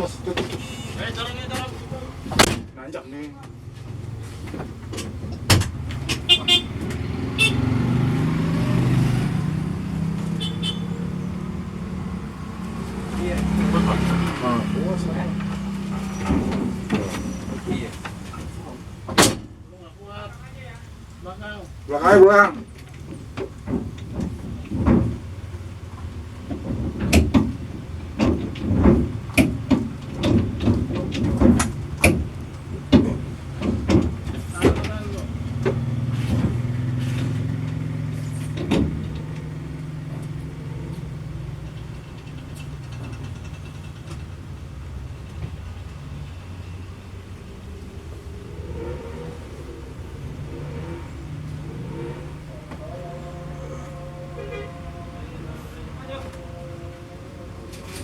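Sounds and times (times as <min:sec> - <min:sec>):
bus engine pulling uphill: 0:00.0 - 0:58.0.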